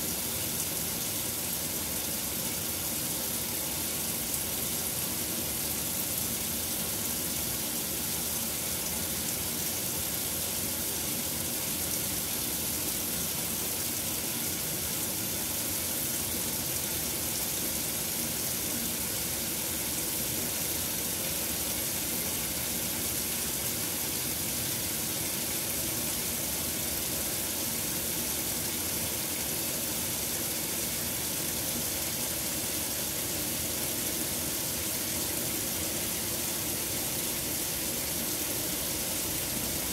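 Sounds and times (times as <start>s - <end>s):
water pouring into washer tub: 0.0s - 39.9s.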